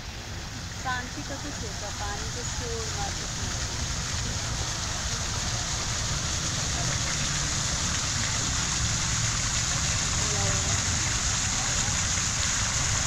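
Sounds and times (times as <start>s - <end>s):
fountain water spray hissing: 0.0s - 13.0s.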